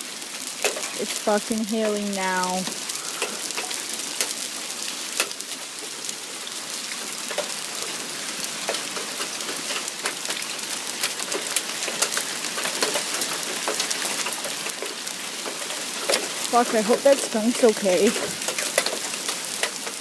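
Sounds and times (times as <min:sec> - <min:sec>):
hailstones striking: 0:00.0 - 0:20.0
heavy rain hissing: 0:00.0 - 0:20.0.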